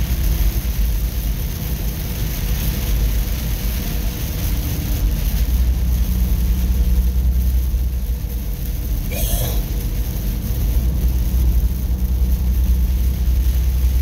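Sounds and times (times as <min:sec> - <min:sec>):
hiss of rain and wet road: 0:00.0 - 0:14.0
truck engine and road rumble: 0:00.0 - 0:14.0.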